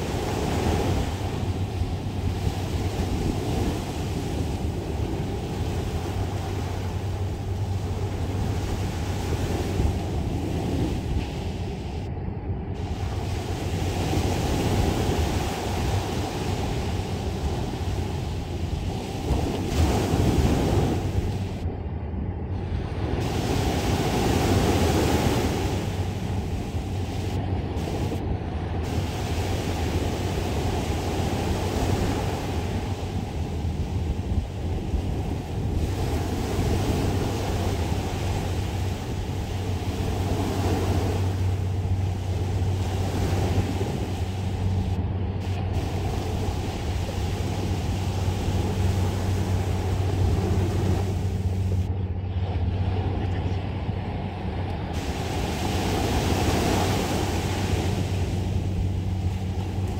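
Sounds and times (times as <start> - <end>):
small waves breaking on sand: 0.0 - 12.1, 12.8 - 21.6, 22.6 - 54.1, 54.9 - 59.9
low engine hum: 0.0 - 59.9.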